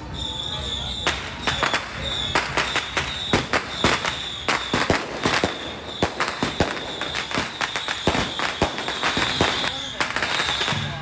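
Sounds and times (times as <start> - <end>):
firecrackers banging: 0.0 - 11.0.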